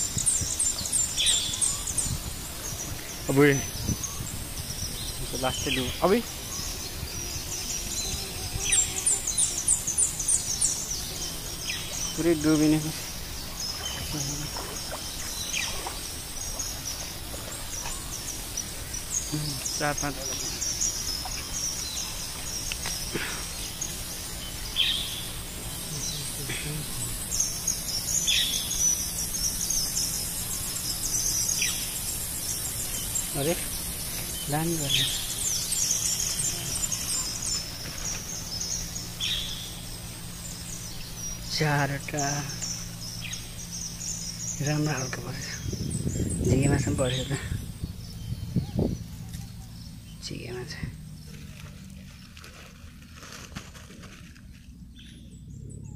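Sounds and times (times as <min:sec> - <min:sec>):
low chirp: 0:00.0 - 0:52.2
high-pitched insect and bird chirping: 0:00.0 - 0:53.4
stream water running: 0:00.0 - 0:54.9.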